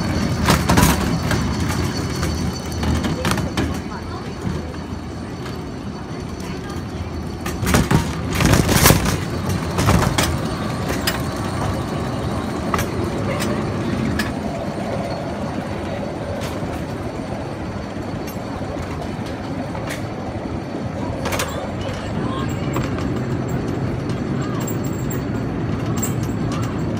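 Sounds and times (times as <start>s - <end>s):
cart clanks: 0.0s - 26.9s
cart clicks and rattles: 0.0s - 26.9s
escalator mechanical rumble: 0.0s - 26.9s.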